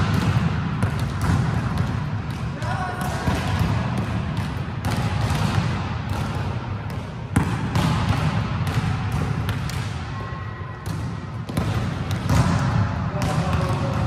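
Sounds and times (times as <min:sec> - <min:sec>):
sports hall background din: 0:00.0 - 0:14.0
volleyballs struck and bouncing: 0:00.0 - 0:14.0.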